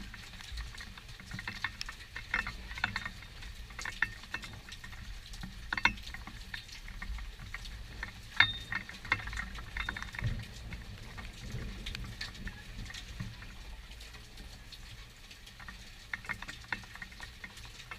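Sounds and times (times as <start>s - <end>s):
raindrops tapping: 0.0s - 17.9s.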